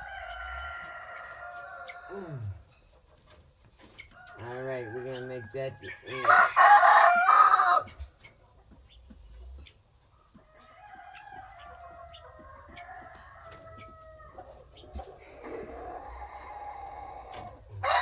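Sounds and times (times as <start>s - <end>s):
roosters crowing: 0.0s - 2.7s, 4.1s - 8.2s, 10.4s - 18.0s.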